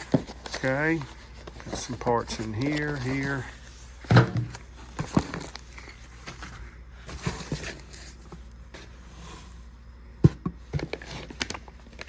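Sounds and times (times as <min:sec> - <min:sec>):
packaging rustling: 0:00.0 - 0:09.1, 0:10.7 - 0:12.0.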